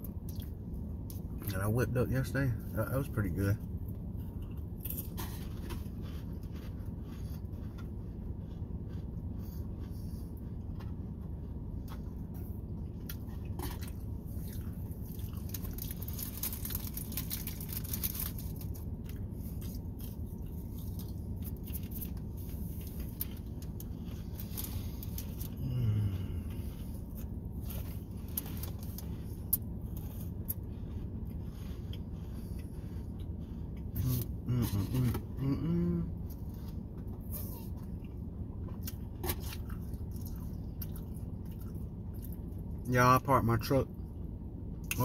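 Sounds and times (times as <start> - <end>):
steady low hum: 0.0 - 45.0
person chewing crackers: 4.0 - 42.7.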